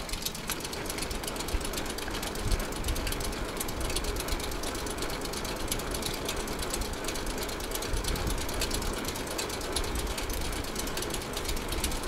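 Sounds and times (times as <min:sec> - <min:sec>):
bicycle freewheel hub ticking: 0:00.0 - 0:12.0.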